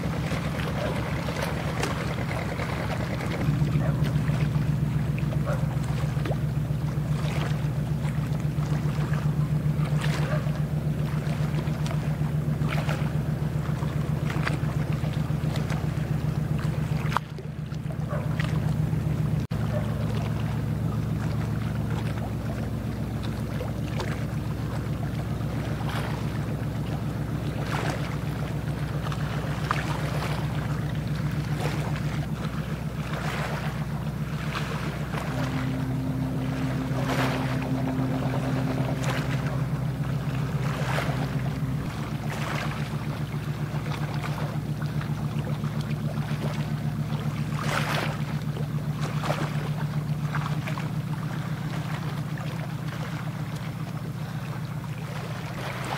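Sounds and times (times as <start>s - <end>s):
boat engine droning: 0.0s - 55.9s
water splashing and slapping: 0.0s - 55.9s.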